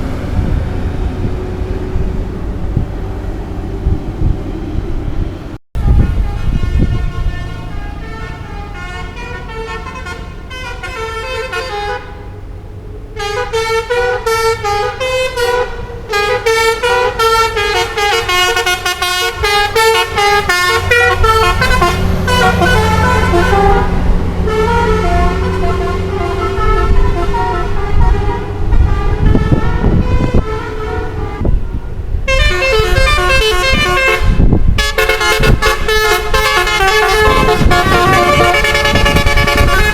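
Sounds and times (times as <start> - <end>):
bus engine running: 0.0 - 39.9
multi-tone bus air horn: 5.8 - 12.5, 13.2 - 39.9.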